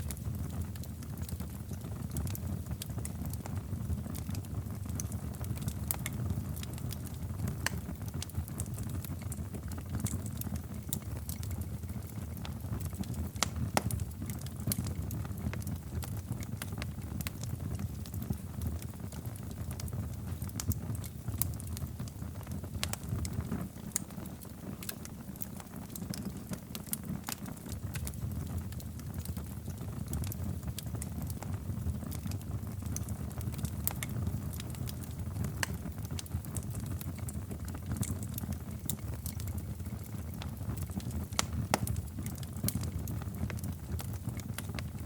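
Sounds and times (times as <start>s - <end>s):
sharp pops and snaps of fire: 0.0s - 45.0s
wood fire crackling: 0.0s - 45.0s.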